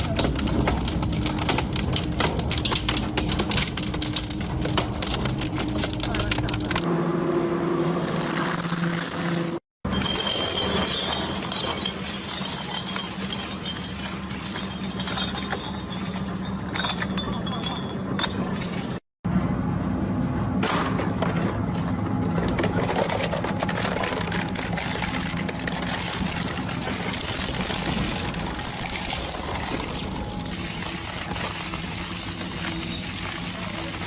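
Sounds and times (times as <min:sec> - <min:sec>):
crushing machine grinding material: 0:00.0 - 0:17.6, 0:20.6 - 0:34.0.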